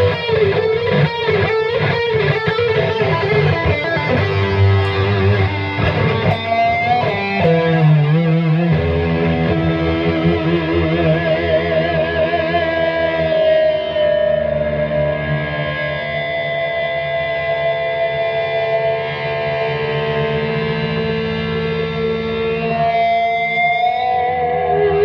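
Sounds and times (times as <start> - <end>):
electric guitar through amplifier: 0.0 - 25.0
guitar feedback tones: 0.0 - 25.0.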